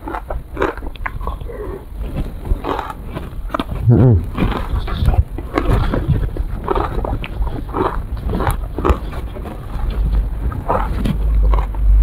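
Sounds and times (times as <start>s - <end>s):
steady low rumble: 0.0s - 12.0s
wet chewing and biting: 0.0s - 12.0s.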